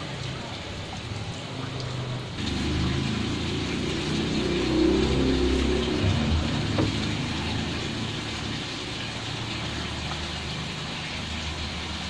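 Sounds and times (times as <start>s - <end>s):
water splashing and bubbling in a tank: 0.0s - 12.0s.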